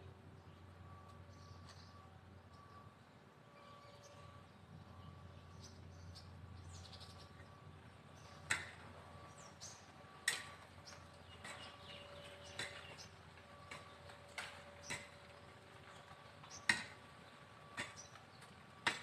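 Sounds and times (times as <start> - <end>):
small birds chirping: 0.3 - 2.9, 3.8 - 10.0, 10.8 - 15.2, 15.8 - 18.6.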